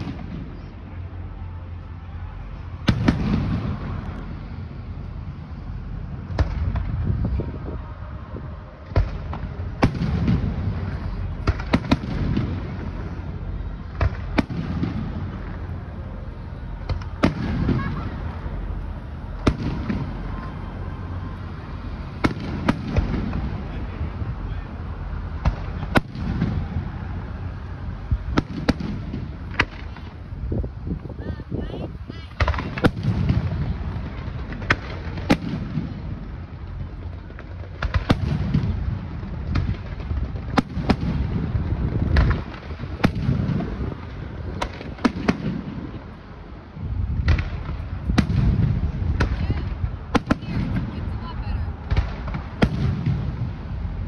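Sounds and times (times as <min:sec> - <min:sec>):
fireworks bangs: 0:00.0 - 0:54.0
low rolling boom echoing: 0:00.0 - 0:54.0.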